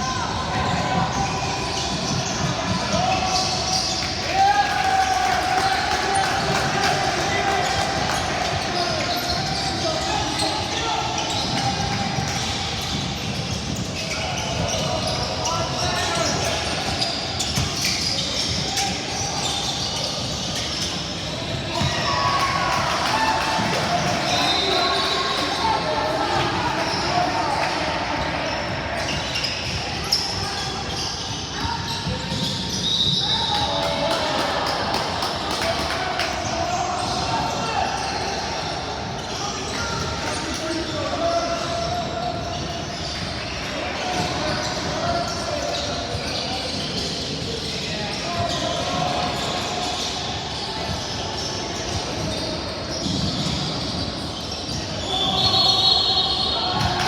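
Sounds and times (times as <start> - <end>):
voices in echoing hall: 0.0 - 57.0
shoe squeaks: 0.1 - 4.4, 8.4 - 23.4, 24.0 - 34.7, 35.6 - 57.0.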